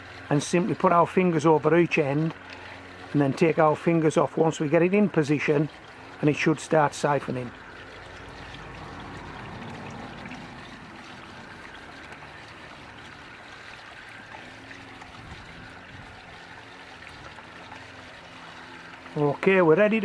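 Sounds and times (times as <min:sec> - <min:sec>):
water pouring into a box: 0:00.0 - 0:20.0.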